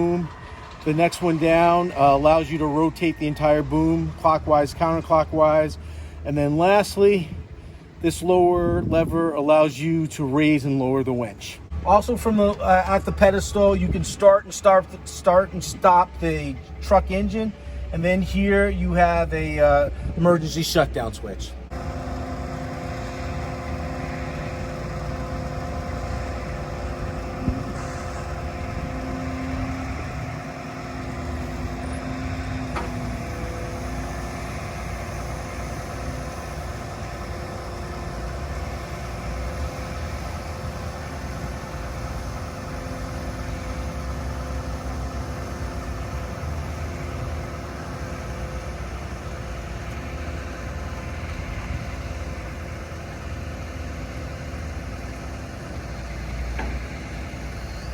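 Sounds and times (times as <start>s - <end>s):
diesel truck engine humming: 0.0s - 57.9s.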